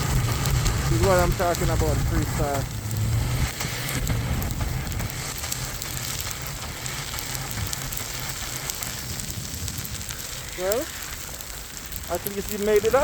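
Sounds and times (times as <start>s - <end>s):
low rumble: 0.0s - 13.0s
small scattered ticks: 0.0s - 13.0s
snowstorm hiss: 0.0s - 13.0s.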